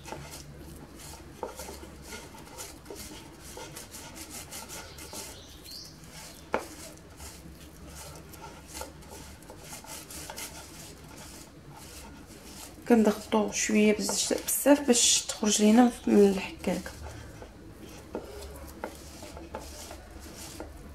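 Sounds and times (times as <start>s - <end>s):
dough scraping on a grater: 0.0s - 20.9s.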